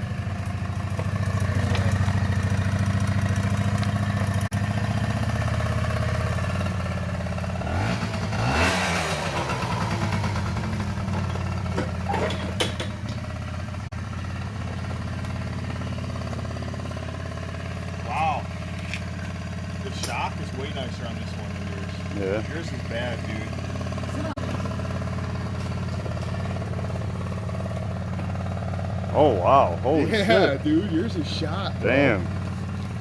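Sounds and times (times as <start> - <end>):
scooter engine passing by: 0.0 - 33.0.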